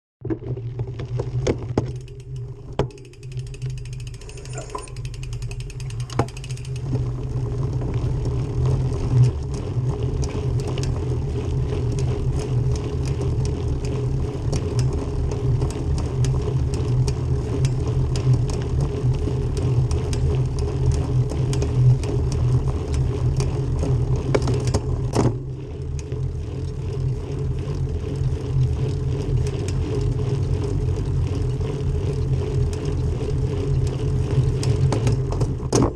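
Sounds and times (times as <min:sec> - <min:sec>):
bicycle drivetrain whirring: 0:00.2 - 0:35.9
bicycle cassette clicking: 0:00.9 - 0:35.7.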